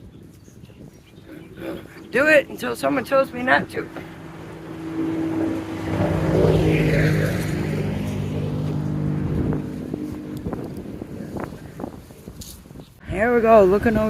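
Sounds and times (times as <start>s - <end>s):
vehicle engine passing by: 1.3s - 12.6s.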